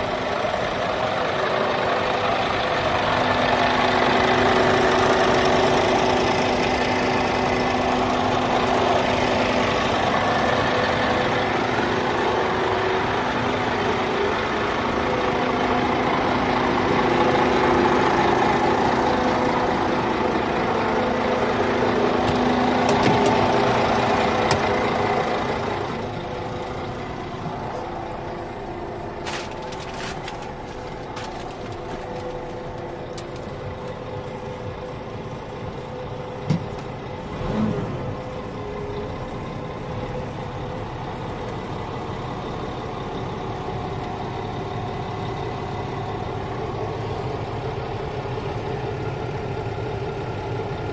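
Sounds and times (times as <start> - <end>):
diesel truck engine idling: 0.0 - 50.9.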